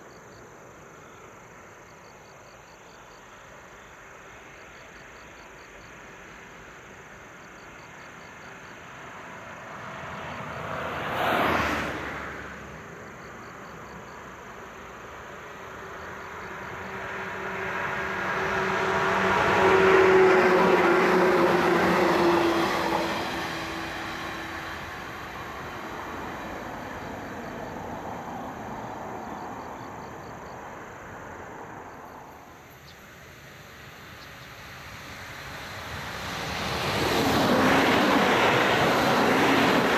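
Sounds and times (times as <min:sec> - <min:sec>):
crickets chirping: 0:00.0 - 0:39.9
electric train approaching: 0:03.2 - 0:39.9.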